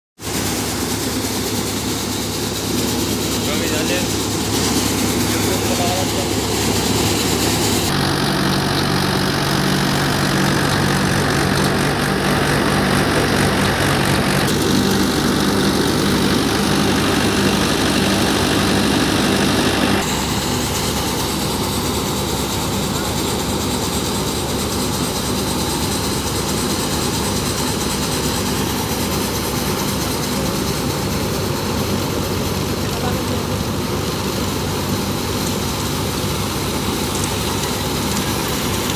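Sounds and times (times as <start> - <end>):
diesel tractor engine under load: 0.2 - 38.9
threshing machine rattle: 0.2 - 38.9.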